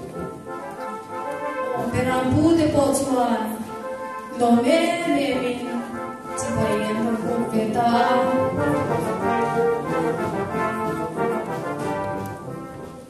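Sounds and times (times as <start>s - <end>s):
brass-led slow instrumental music: 0.0s - 13.0s.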